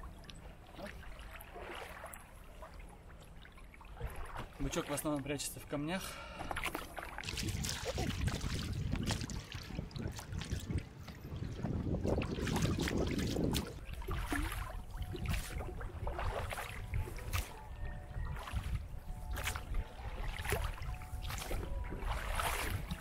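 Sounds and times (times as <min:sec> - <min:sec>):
oars splashing in water: 0:00.0 - 0:23.0.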